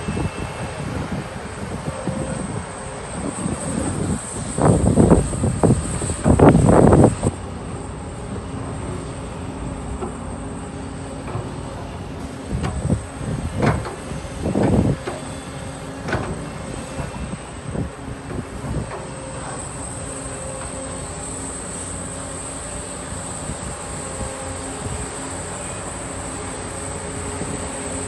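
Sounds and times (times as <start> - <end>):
excavator diesel engine droning: 0.0 - 28.0.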